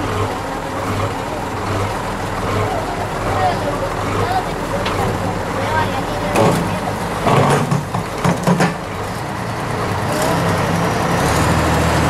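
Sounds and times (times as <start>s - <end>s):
heavy machinery diesel engines: 0.0s - 12.0s.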